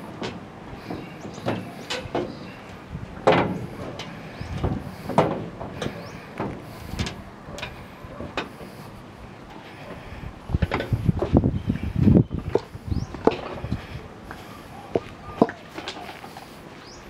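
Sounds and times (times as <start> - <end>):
footsteps on steel deck: 0.0 - 17.0.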